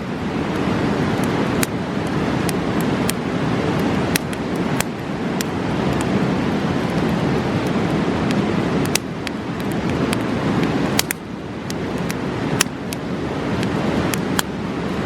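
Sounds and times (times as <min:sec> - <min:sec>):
rushing river: 0:00.0 - 0:15.0
campfire crackling and popping: 0:00.1 - 0:15.0.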